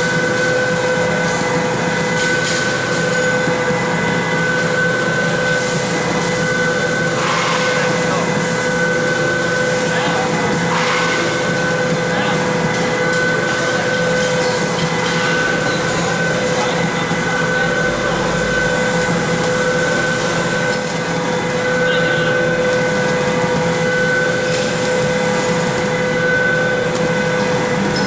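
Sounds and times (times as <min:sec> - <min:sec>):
high machine whine: 0:00.0 - 0:28.0
machine droning: 0:00.0 - 0:28.0.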